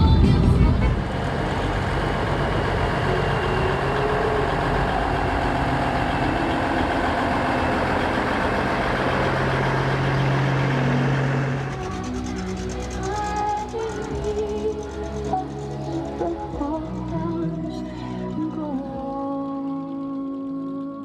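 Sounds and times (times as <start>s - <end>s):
car engine idling: 0.0s - 21.0s
music: 0.0s - 21.0s.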